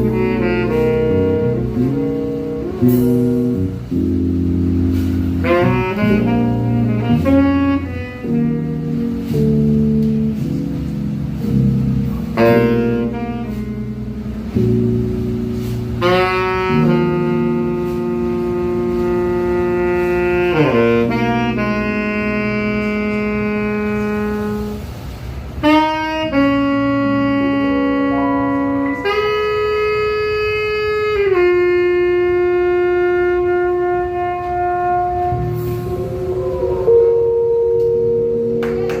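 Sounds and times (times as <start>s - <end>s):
sustained keyboard chords: 0.0s - 25.0s, 25.6s - 39.0s
saxophone holding long notes: 0.0s - 39.0s.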